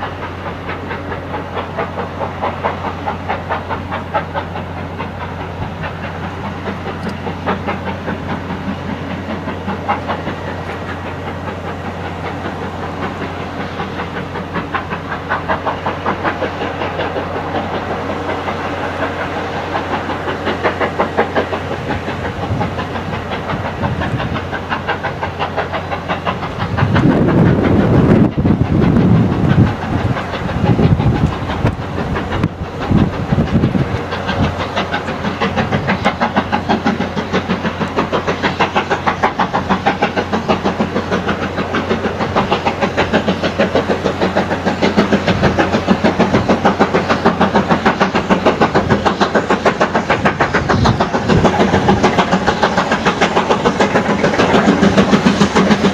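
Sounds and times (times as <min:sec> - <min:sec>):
steam locomotive exhaust beats: 0:00.0 - 0:55.9.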